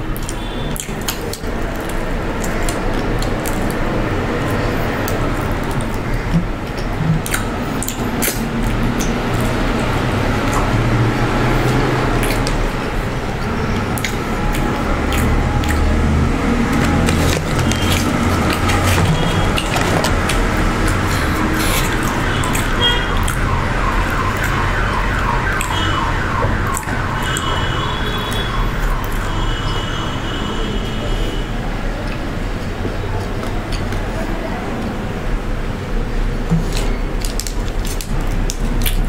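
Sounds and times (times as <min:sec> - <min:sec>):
crunching and chewing fried chicken: 0:00.0 - 0:31.2, 0:36.2 - 0:39.0.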